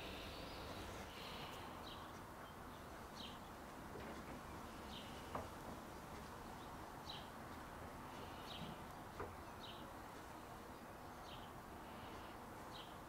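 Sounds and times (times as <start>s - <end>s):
bird chirping: 0.0s - 3.7s, 4.4s - 13.0s
steady background hiss: 0.0s - 13.0s.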